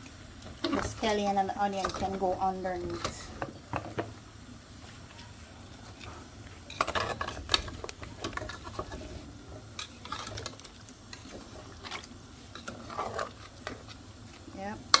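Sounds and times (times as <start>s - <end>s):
utensil scraping and clinking pot: 0.4s - 4.1s, 5.7s - 15.0s.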